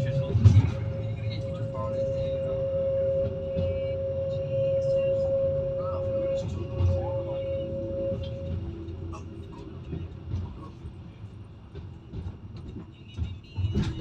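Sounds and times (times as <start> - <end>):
tram running rumble: 0.0 - 14.0.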